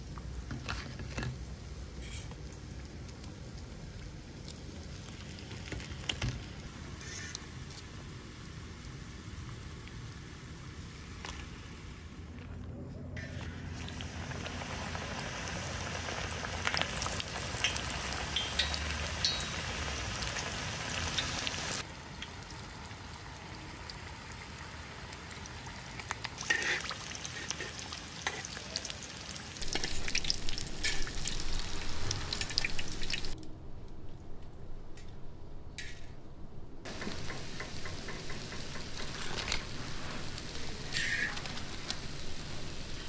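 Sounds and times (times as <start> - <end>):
deep-frying sizzle with crackles: 0.0 - 12.2, 13.2 - 33.4, 36.8 - 43.0.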